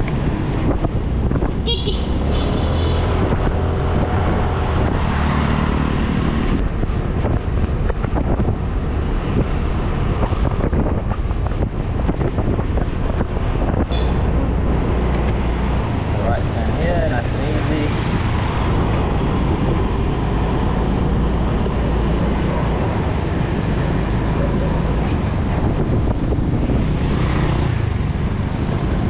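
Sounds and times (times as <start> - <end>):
wind buffeting microphone: 0.0 - 2.3, 3.0 - 29.0
traffic passing: 0.0 - 29.0.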